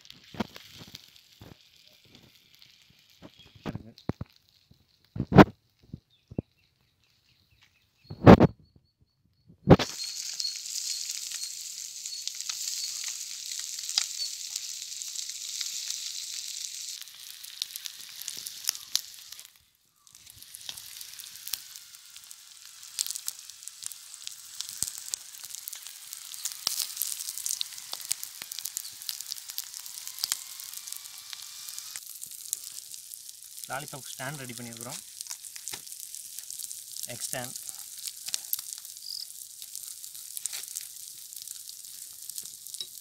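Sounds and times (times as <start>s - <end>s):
eggs sizzling in oil: 0.0s - 7.5s, 9.7s - 43.0s
small crackles and pops: 0.0s - 8.6s, 9.3s - 43.0s.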